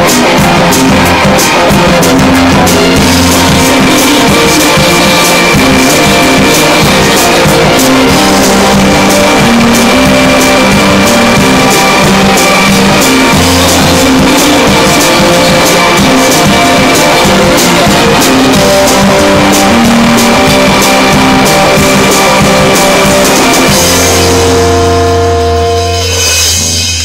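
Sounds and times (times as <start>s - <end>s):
cymbal strikes: 0.0s - 27.0s
rock band playing live: 0.0s - 27.0s.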